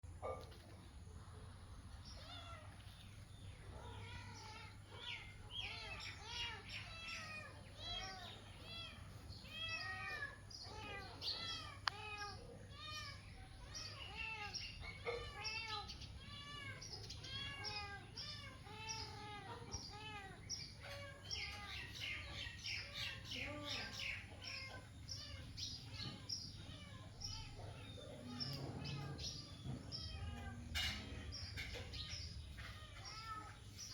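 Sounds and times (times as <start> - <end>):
cat meowing: 3.7 - 22.0, 24.4 - 33.9.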